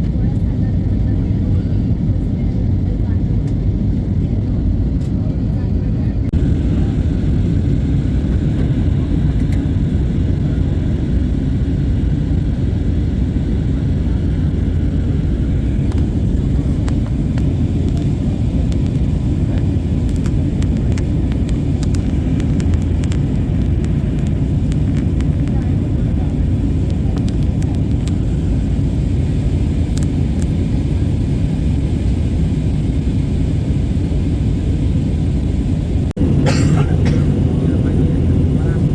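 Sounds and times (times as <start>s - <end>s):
airplane low rumble: 0.0s - 38.9s.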